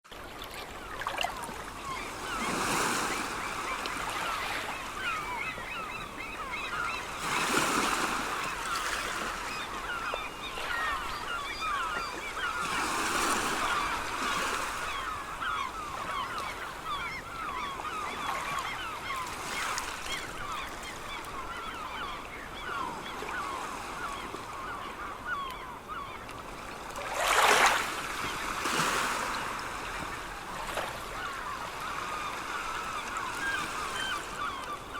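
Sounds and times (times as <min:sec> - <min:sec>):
seagulls calling: 0:00.6 - 0:34.9.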